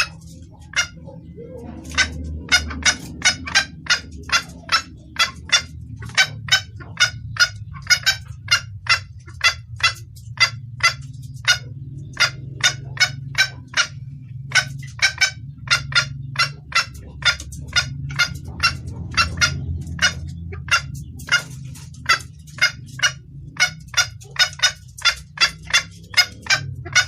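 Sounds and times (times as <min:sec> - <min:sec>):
hen junglefowl clucking calls: 0:00.0 - 0:27.0
steady low hum: 0:00.0 - 0:27.0.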